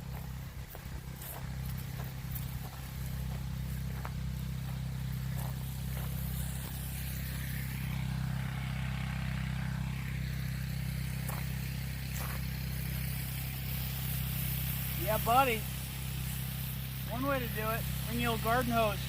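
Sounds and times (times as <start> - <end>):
water pump motor humming: 0.0 - 19.0
water spraying from hose: 0.0 - 19.0.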